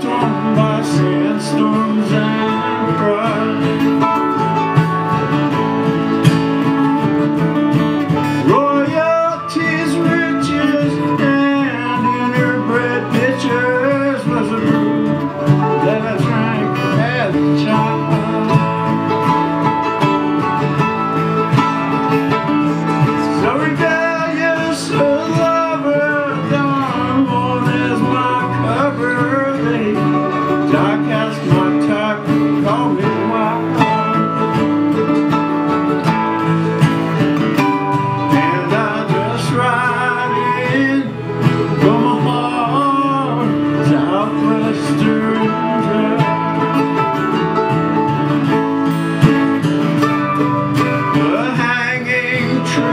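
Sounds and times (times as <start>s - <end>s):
acoustic string band playing: 0.0s - 52.9s.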